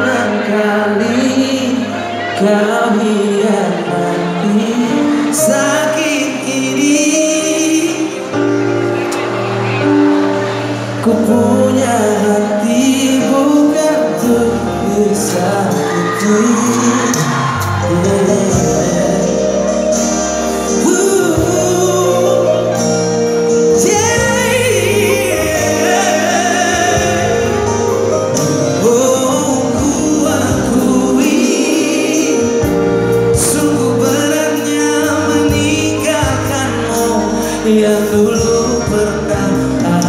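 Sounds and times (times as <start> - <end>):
live pop band playing: 0.0 - 40.0.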